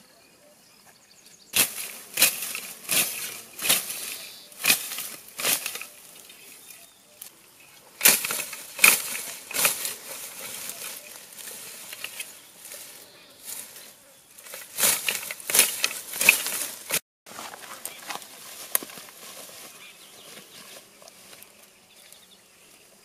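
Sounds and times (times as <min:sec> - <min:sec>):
sickle swishing through grass: 0:01.6 - 0:07.3, 0:08.0 - 0:21.7.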